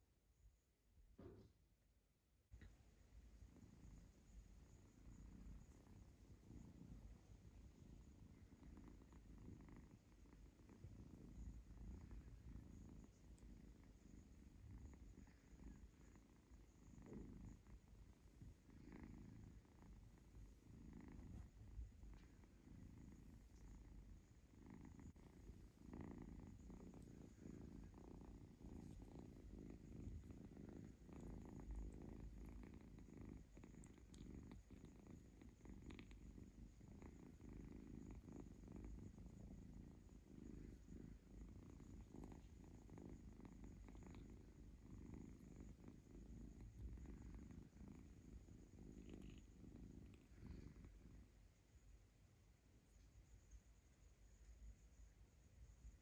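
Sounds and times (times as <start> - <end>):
kitten purring: 1.0 - 1.7, 2.5 - 56.0.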